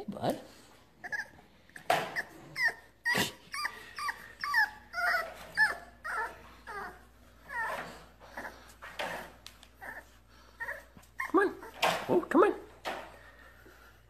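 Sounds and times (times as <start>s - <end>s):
puppy whining: 0.8s - 12.2s.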